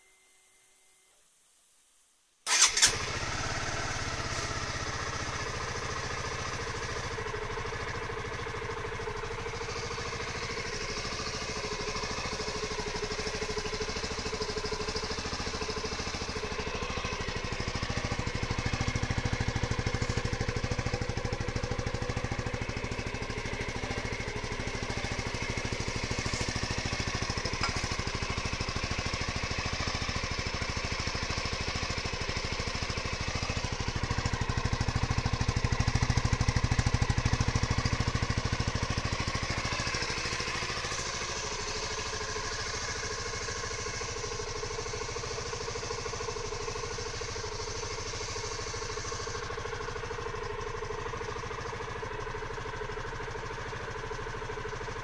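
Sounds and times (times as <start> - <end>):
motorcycle engine starting and idling: 2.5 - 55.0.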